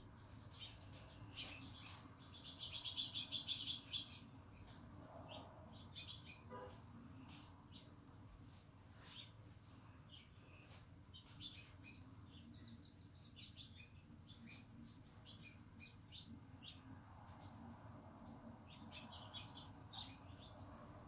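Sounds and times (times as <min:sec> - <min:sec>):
low steady hum: 0:00.0 - 0:21.0
small songbirds chirping faintly: 0:00.0 - 0:21.0.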